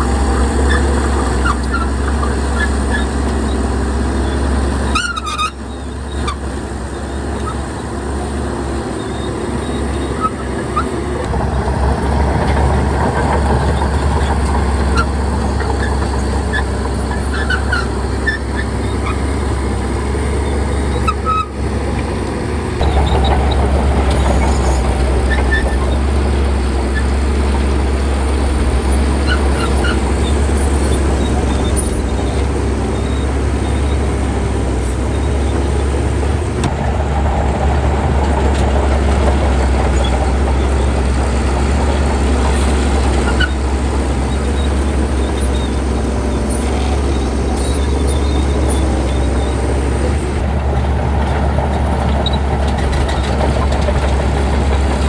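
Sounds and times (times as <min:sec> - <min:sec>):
bulldozer diesel engine droning: 0:00.0 - 0:55.0.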